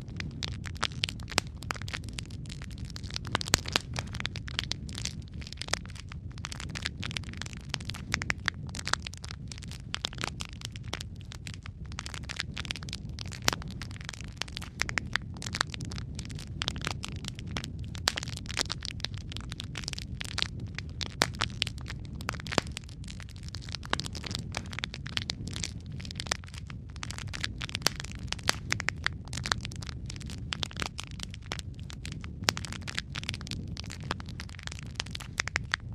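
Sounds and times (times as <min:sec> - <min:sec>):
low fire rumble: 0:00.0 - 0:35.9
wood fire crackling and popping: 0:00.0 - 0:35.9.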